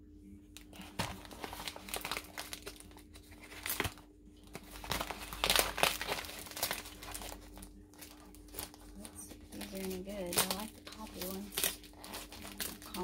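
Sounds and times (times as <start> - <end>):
paper bag crinkling: 0.6 - 13.0.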